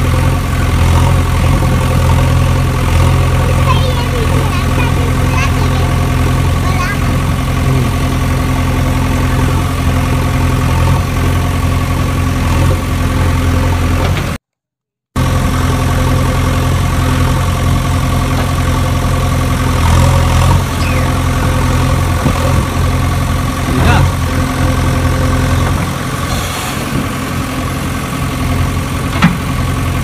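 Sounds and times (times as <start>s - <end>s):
engine idling: 0.0s - 14.2s, 15.2s - 30.0s.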